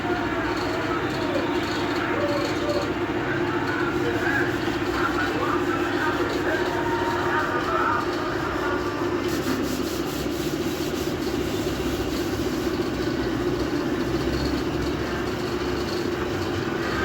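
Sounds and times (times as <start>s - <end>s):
woodworking machinery running: 0.0s - 17.0s.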